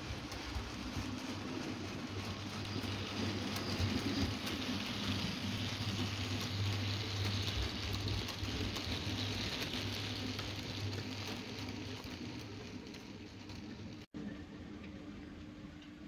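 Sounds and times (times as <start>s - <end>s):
model train wheels rattling: 0.0s - 14.1s.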